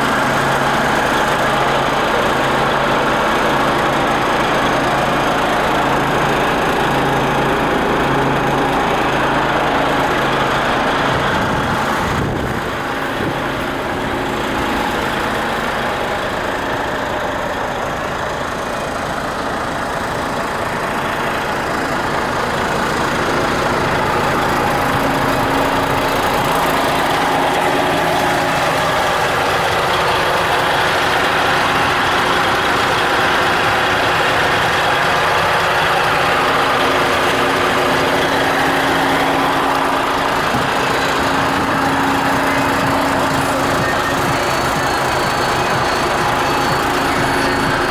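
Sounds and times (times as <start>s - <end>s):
truck diesel engine running: 0.0s - 47.9s.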